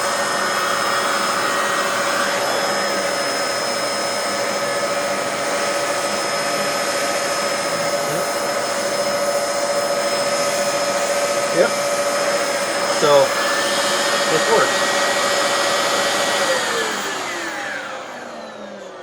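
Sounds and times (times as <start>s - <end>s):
vacuum cleaner turbo brush whining: 0.0s - 19.0s.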